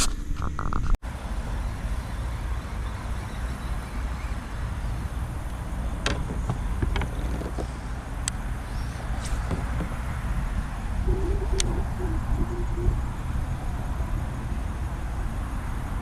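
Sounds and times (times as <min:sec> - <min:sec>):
distant road traffic rumble: 0:01.0 - 0:16.0.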